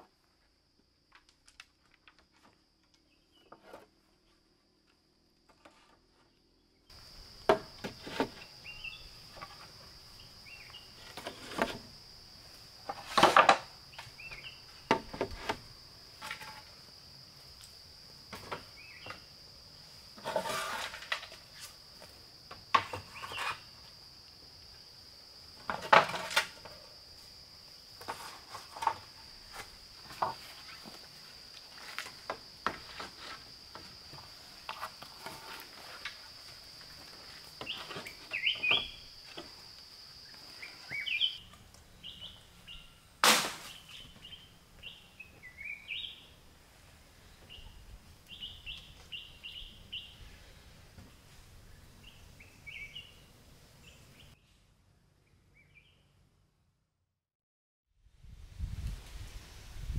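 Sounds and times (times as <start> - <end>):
background hiss: 6.8 - 55.1, 58.1 - 59.9.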